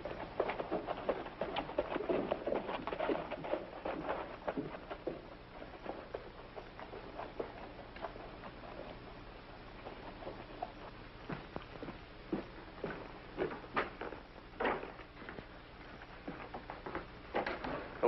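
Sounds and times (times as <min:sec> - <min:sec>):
horse hoofbeats: 0:00.0 - 0:18.0.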